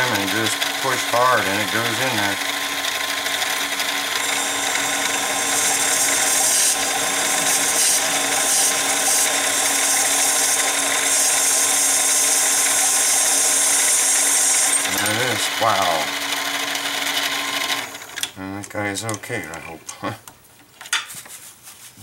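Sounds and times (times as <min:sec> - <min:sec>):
lathe tool scraping metal: 0:00.0 - 0:18.2
lathe humming: 0:00.0 - 0:18.3.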